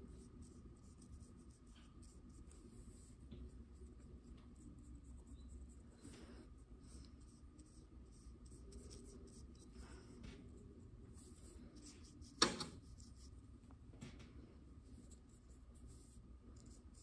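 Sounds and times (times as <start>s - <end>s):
paintbrush scratching on paper: 0.0s - 13.5s, 14.8s - 17.0s.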